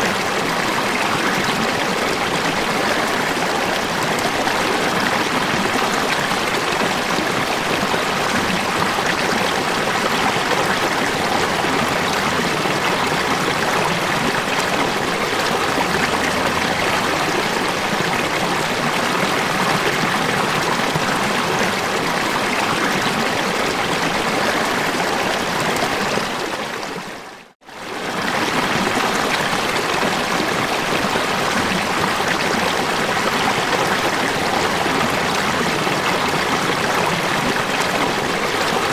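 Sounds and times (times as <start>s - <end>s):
rushing falling water: 0.0s - 38.9s.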